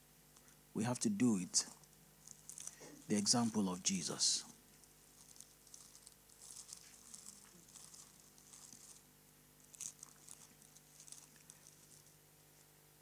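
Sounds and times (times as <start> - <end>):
faint electrical hum: 0.0 - 13.0
faint rustling and crackling: 1.3 - 12.8.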